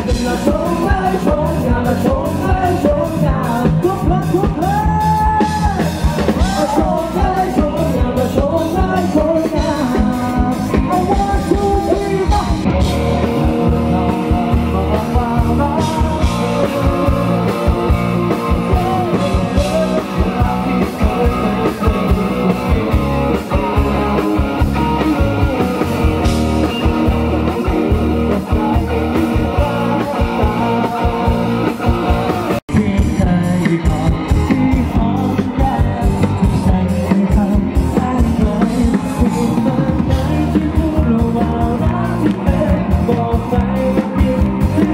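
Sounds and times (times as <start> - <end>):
drums: 0.0 - 44.9
electric guitar: 0.0 - 44.9
man singing: 0.0 - 44.9.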